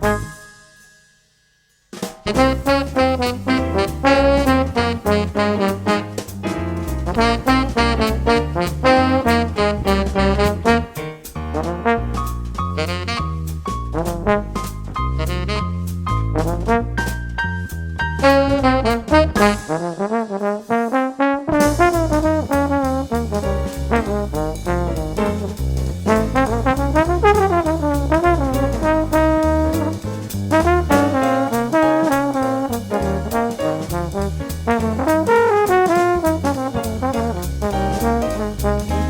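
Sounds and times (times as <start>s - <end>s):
trombone and trumpet lines: 0.0s - 0.6s, 2.3s - 17.4s, 18.1s - 39.0s
steady drum beat: 2.0s - 17.5s, 18.2s - 39.0s.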